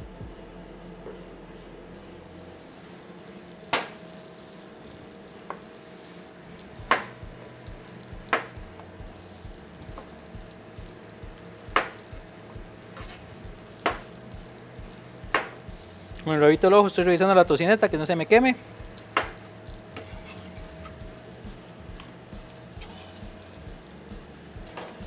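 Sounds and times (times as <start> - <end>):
bacon sizzling in a pan: 0.0 - 25.0.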